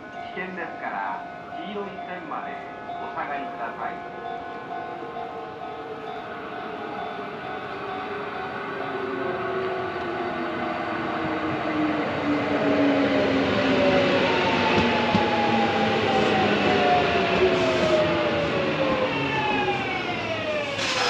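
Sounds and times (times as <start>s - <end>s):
wheels rumbling on rails: 4.1s - 21.0s.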